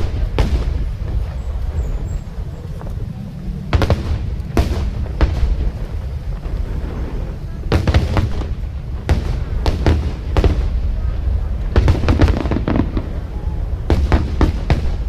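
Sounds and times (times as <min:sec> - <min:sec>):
fireworks bangs: 0:00.0 - 0:15.0
low rumble: 0:00.0 - 0:15.0.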